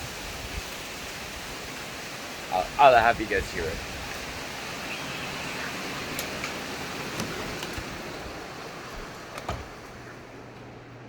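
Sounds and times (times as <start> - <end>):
heavy rain hiss: 0.0 - 10.5.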